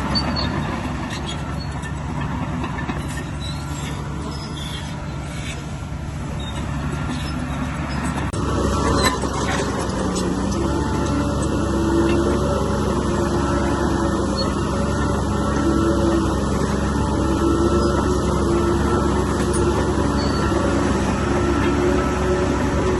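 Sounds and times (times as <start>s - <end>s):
diesel earthmoving machine running: 0.0s - 22.9s.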